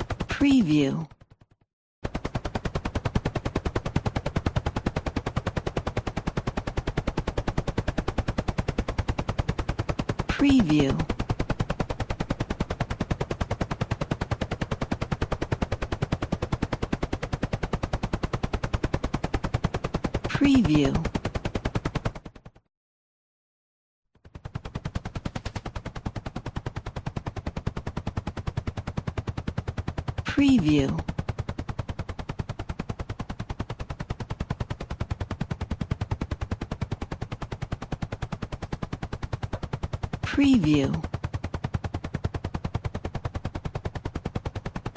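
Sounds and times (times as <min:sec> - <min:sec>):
helicopter rotor blades chopping: 0:00.0 - 0:22.6, 0:24.2 - 0:44.9.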